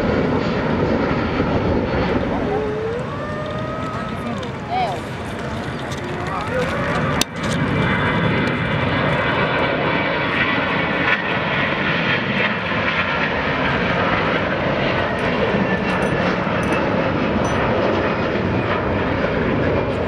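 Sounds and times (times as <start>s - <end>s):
jet engines at takeoff thrust: 0.0s - 20.0s.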